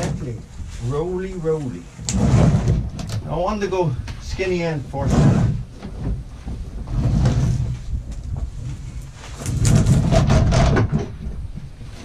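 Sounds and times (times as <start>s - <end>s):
log scraping and knocking: 0.0s - 12.0s.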